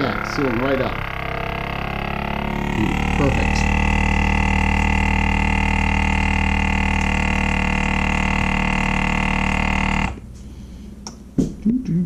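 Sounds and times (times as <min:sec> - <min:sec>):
vacuum sealer pump humming: 0:00.0 - 0:10.8.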